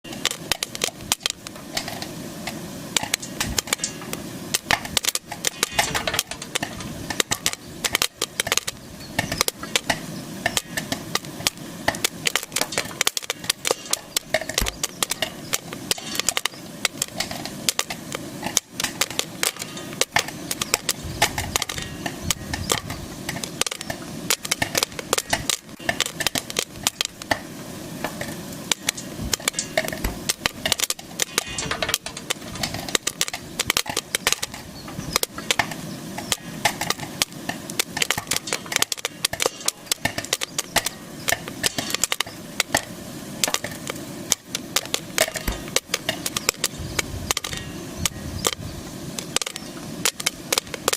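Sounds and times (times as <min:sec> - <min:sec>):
popcorn popping: 0:00.0 - 0:50.9
steady sizzling hiss: 0:00.0 - 0:50.9.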